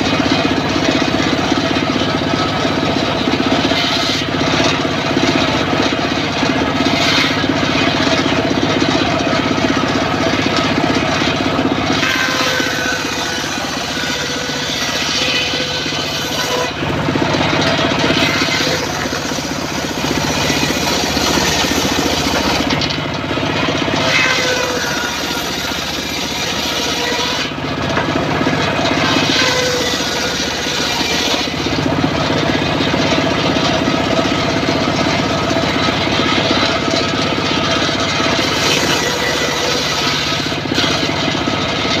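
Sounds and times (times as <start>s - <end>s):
circular saw motor running: 0.0s - 42.0s.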